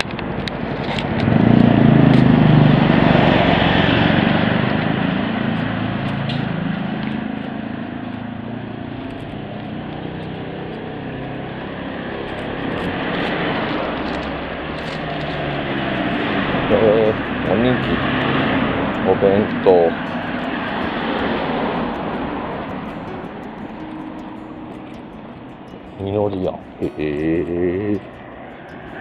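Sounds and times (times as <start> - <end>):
steady traffic noise: 0.0 - 29.0
vehicle passing close by: 0.0 - 29.0.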